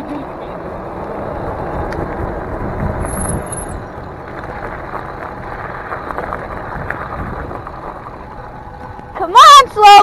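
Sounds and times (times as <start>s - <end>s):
tyre rumble on pavement: 0.0s - 10.0s
wind buffeting microphone: 0.0s - 10.0s.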